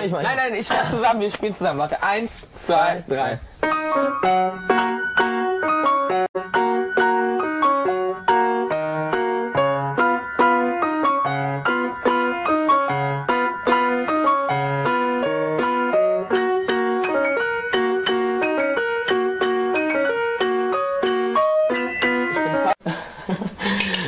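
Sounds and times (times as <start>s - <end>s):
piano tune: 3.4s - 22.8s.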